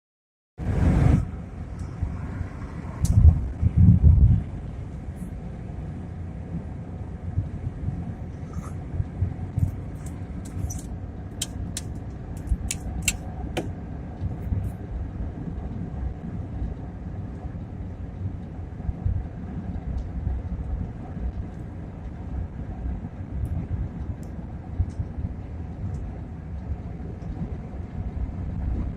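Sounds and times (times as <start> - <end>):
car road and engine rumble: 0.6 - 28.9.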